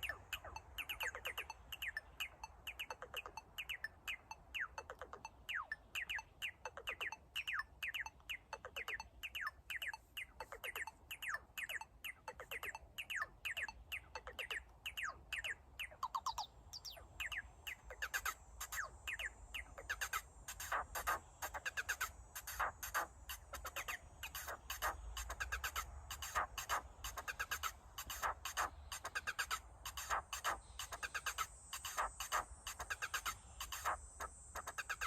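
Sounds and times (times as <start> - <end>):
synthesizer chirp-like notes: 0.0 - 35.0.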